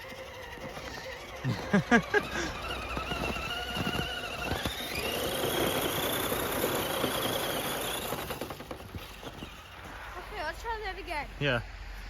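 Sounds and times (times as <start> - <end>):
toy truck electric motor whining: 0.0 - 9.8.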